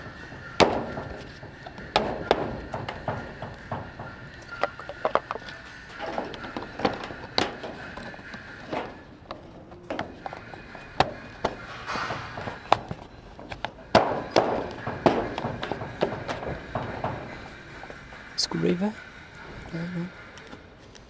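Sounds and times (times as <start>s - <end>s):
tools knocking and clattering: 0.0s - 18.4s.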